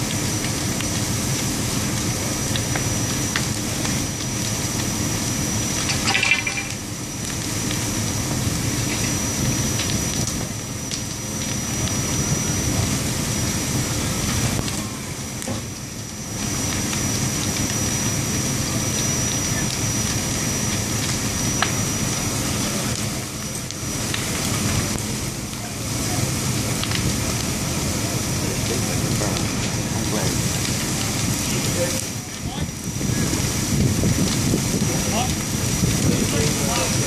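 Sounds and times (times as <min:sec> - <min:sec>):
fire hose spraying water: 0:00.0 - 0:37.0.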